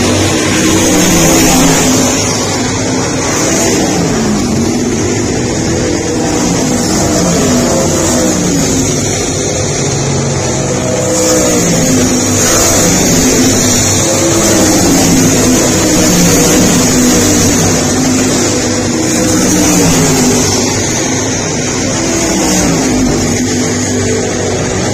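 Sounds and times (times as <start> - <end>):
race car engines revving: 0.0 - 24.9.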